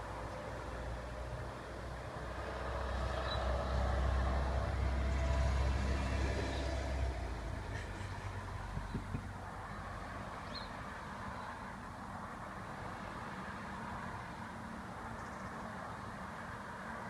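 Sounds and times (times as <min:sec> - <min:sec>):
passing vehicle rumble: 0:00.0 - 0:17.0.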